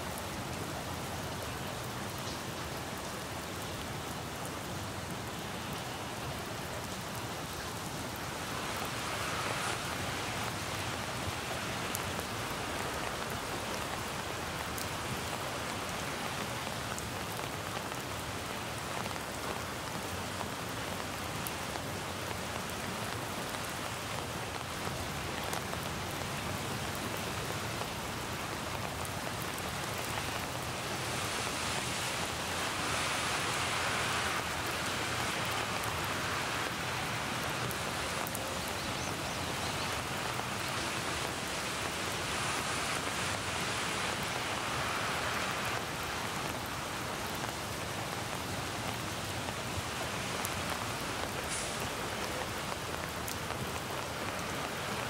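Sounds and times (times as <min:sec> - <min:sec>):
steady rain on foliage and pavement: 0:00.0 - 0:55.0.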